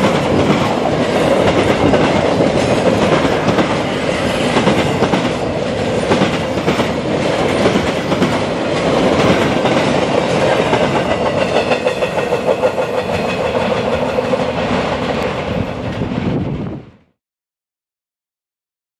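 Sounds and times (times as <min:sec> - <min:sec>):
train wheels clicking over rail joints: 0:00.0 - 0:16.4.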